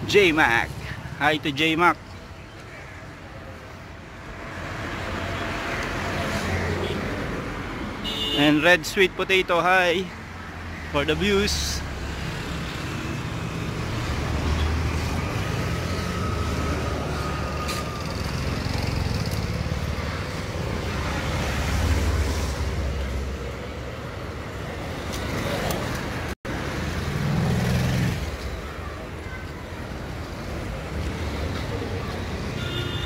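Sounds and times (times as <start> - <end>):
cars passing: 3.1 - 33.0.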